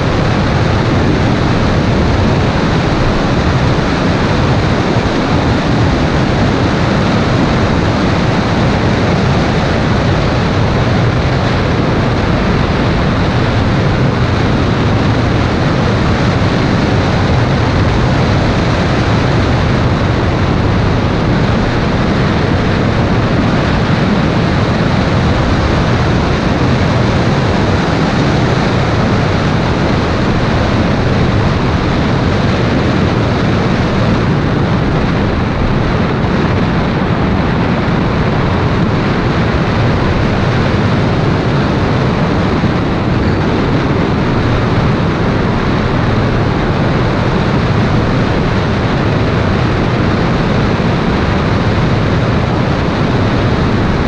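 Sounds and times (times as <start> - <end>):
wind rush: 0.0 - 54.0.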